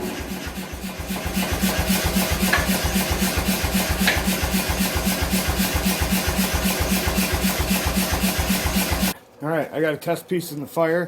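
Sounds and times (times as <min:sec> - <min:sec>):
machine thumping: 0:00.0 - 0:09.2
noisy machine hum: 0:00.0 - 0:09.2.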